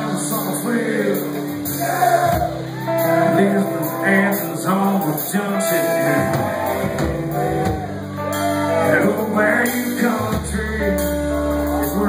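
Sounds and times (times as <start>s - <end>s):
man singing into a microphone: 0.0s - 8.0s, 8.6s - 12.0s
country band playing: 0.0s - 12.0s.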